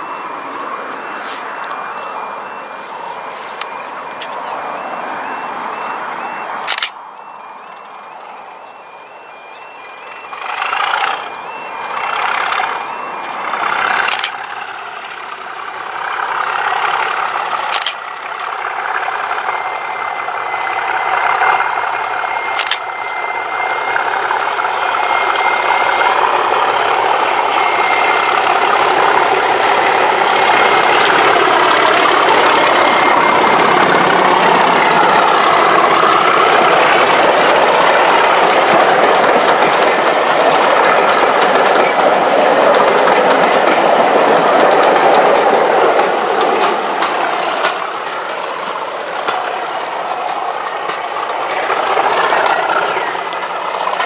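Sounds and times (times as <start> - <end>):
diesel locomotive engine working hard: 0.0 - 54.0.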